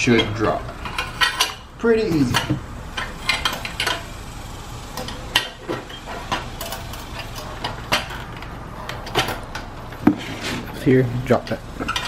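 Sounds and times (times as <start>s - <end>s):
metal exhaust clinking and knocking: 0.0s - 12.0s.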